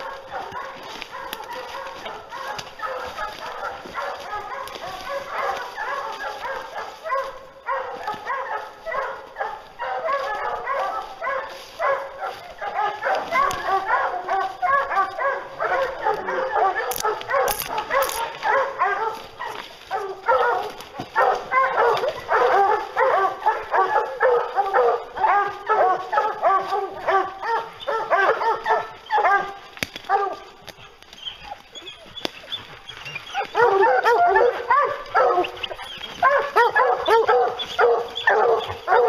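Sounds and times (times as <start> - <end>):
hounds baying and barking: 0.0 - 39.0.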